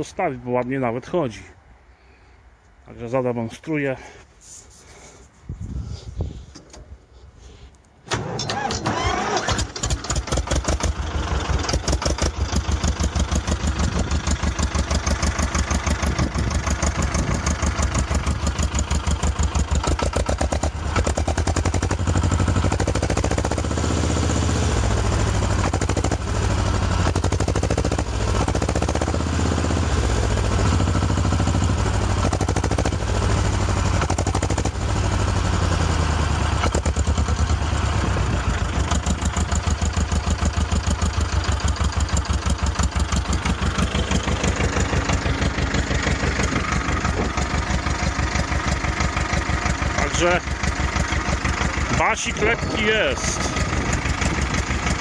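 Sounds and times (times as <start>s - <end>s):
diesel tractor engine starting: 5.8s - 55.0s
tractor engine running evenly: 6.3s - 55.0s.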